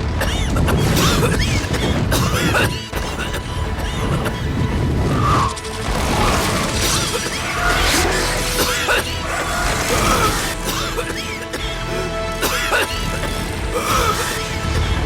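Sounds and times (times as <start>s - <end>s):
film soundtrack music: 0.0s - 15.0s.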